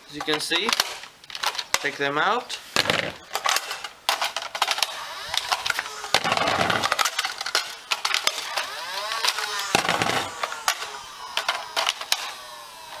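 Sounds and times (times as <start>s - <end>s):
plastic clicks and rattles: 0.2s - 1.9s, 2.8s - 12.4s.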